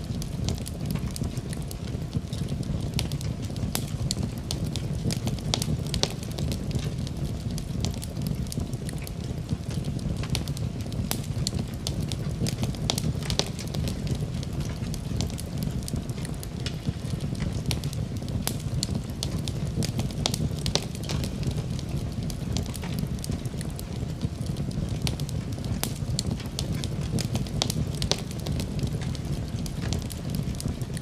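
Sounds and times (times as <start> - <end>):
fireplace fire crackling: 0.0 - 31.0.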